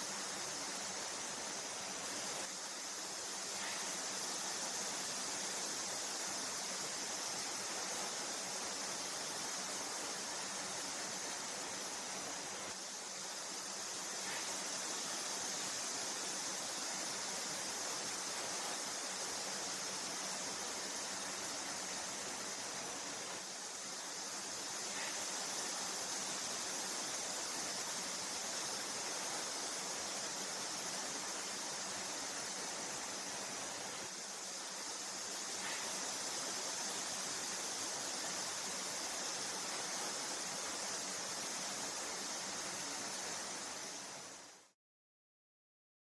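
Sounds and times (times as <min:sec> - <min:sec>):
cicadas singing: 0:00.0 - 0:44.7.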